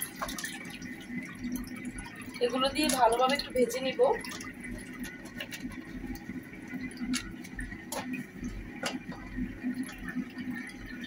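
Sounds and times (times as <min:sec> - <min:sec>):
oil popping: 0:00.0 - 0:11.0
spices sizzling in hot oil: 0:00.0 - 0:11.0.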